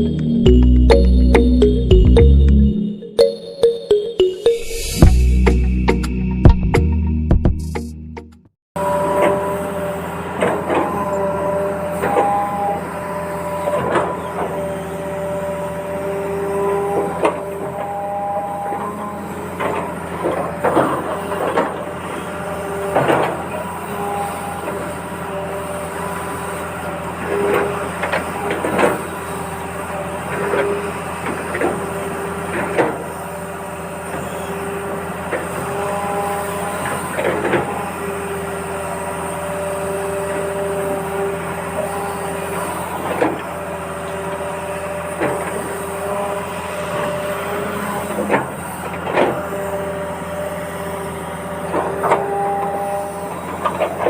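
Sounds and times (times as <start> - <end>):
heavy machinery engine running: 0.0 - 2.9, 8.8 - 54.0.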